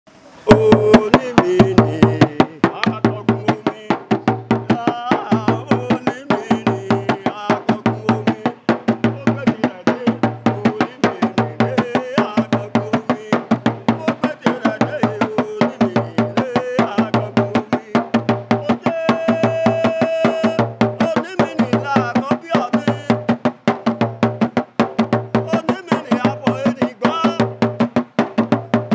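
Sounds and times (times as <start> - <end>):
fast percussion beat: 0.4 - 28.9.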